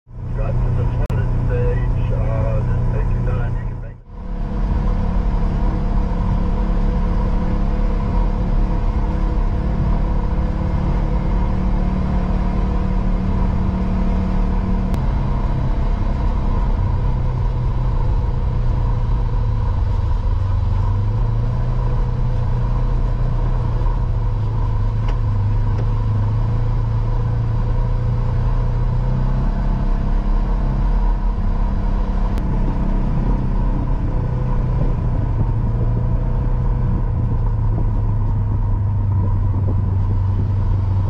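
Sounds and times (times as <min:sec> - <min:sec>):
off-road vehicle engine driving: 0:00.1 - 0:41.0.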